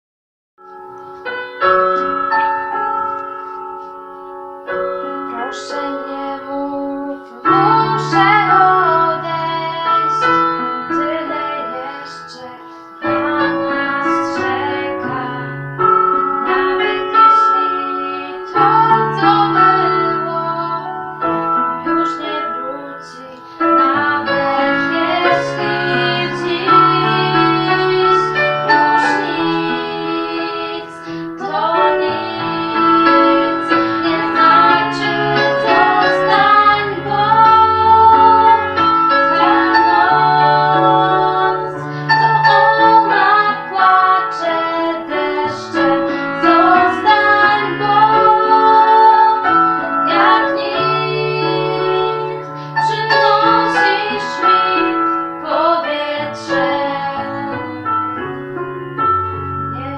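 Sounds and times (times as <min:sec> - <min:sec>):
piano accompaniment: 0:00.6 - 0:59.9
women singing a duet: 0:05.2 - 0:15.6, 0:16.4 - 0:58.2.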